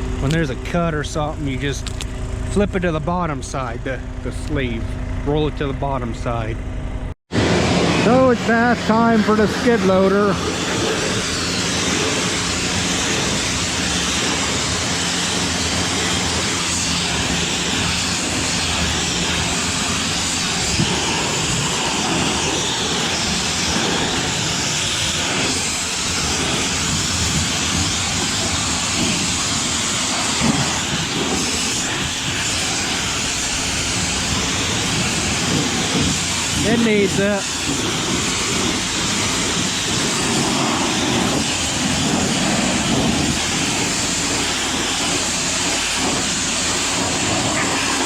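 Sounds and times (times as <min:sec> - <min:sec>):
engine hum: 0:00.0 - 0:48.0
water spray hissing: 0:07.4 - 0:48.0.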